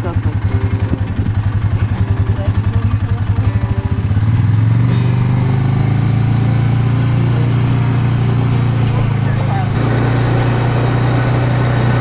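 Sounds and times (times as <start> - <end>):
vehicle engine chugging: 0.0 - 12.0.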